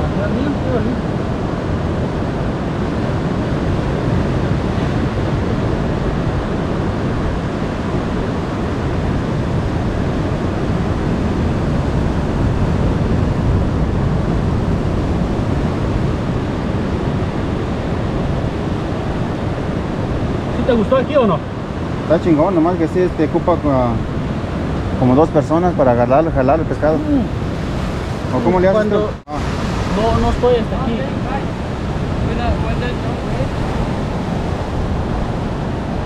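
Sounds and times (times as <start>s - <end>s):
ocean surf breaking on rocks: 0.0s - 36.0s
wind on microphone: 0.0s - 36.0s.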